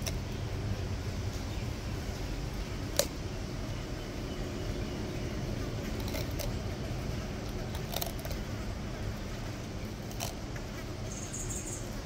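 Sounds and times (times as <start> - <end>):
steady low rumble: 0.0 - 12.0
tortoise crunching cucumber: 0.0 - 12.0.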